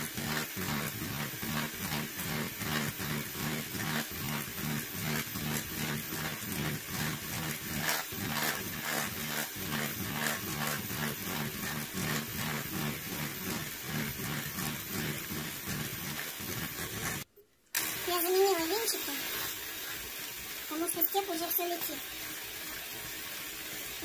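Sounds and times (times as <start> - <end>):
electric hand mixer running: 0.0 - 24.0.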